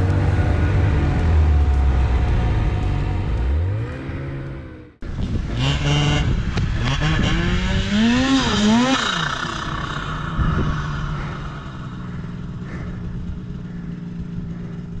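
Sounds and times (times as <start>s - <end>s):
snowmobile engine revving and idling: 0.0s - 15.0s.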